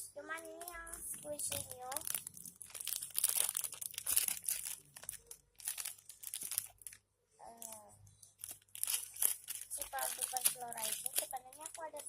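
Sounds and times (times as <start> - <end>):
plastic crinkling and rustling: 0.3 - 12.0.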